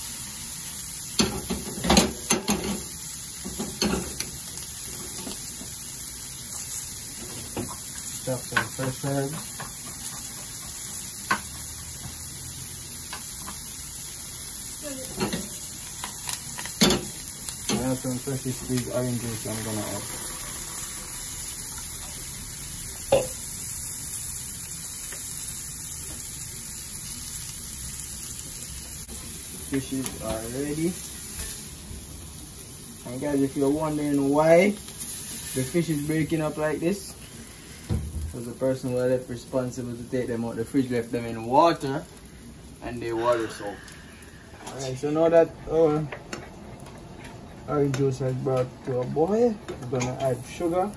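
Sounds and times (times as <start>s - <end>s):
onion sizzling in oil: 0.0s - 50.9s.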